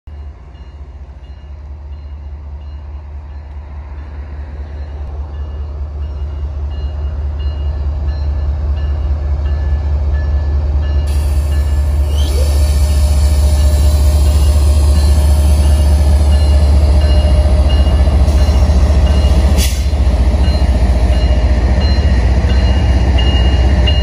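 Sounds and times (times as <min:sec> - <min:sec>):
diesel locomotive engine rumble: 0:00.1 - 0:24.0.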